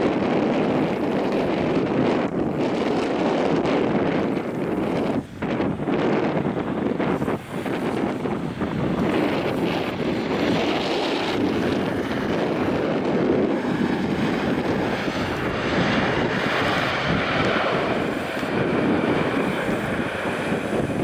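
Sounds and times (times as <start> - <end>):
jet engines rushing: 0.0 - 21.0
wind buffeting microphone: 0.0 - 21.0.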